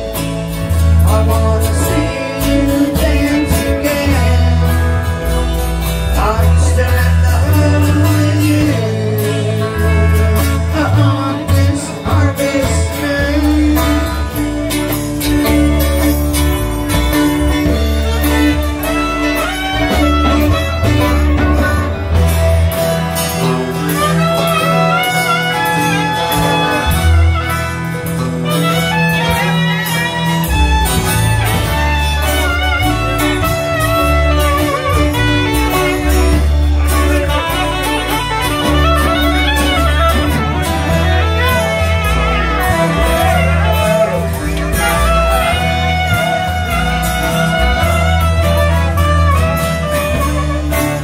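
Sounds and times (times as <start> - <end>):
reed instrument melody: 0.0 - 51.0
strummed guitars: 0.0 - 51.0.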